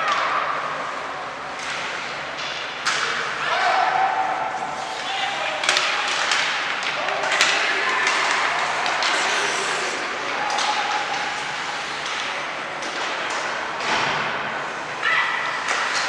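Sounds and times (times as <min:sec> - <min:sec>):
noisy crowd background: 0:00.0 - 0:16.0.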